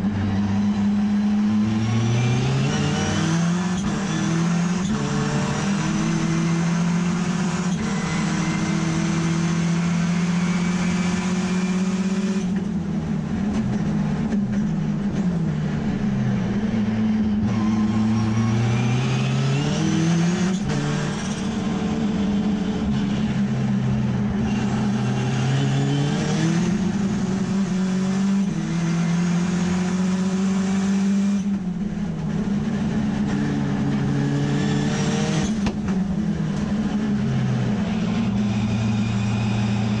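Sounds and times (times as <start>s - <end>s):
race car engine revving: 0.0s - 40.0s.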